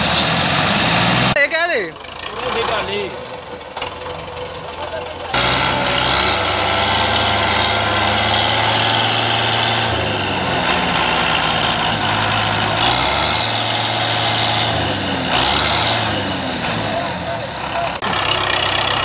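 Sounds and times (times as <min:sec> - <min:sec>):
tractor diesel engine idling: 0:01.4 - 0:19.0.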